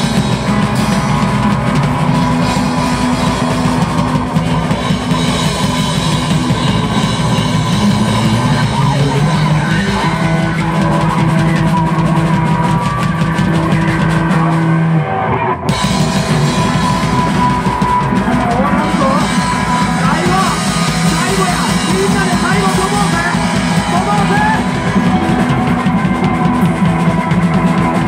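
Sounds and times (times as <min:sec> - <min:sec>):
drum kit: 0:00.0 - 0:15.0, 0:15.6 - 0:28.0
electric bass: 0:00.0 - 0:28.0
electric guitar: 0:00.0 - 0:28.0.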